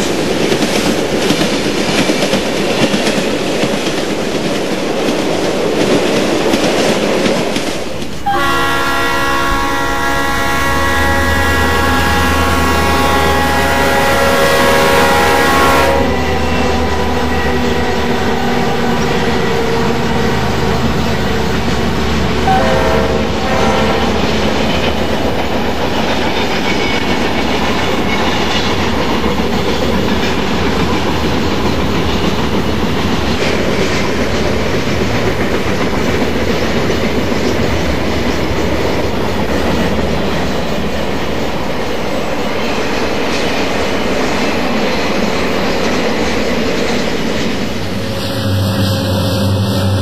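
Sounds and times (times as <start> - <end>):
model train wheels on track: 0.0 - 50.0.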